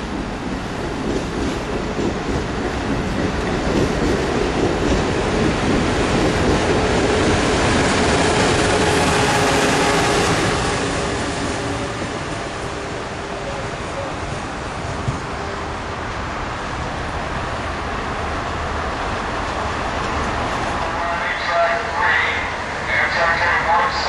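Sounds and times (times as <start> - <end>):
train passing at speed: 0.0 - 24.0.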